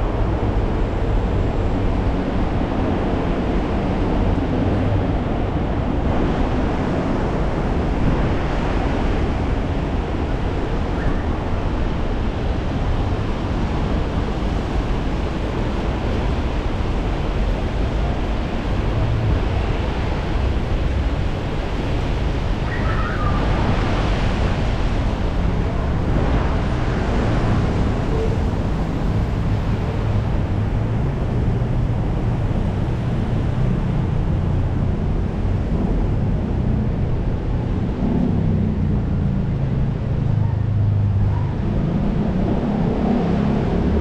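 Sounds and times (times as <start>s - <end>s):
rain: 0.0s - 44.0s
road traffic rumble: 0.0s - 44.0s
wind gusting on microphone: 0.0s - 44.0s.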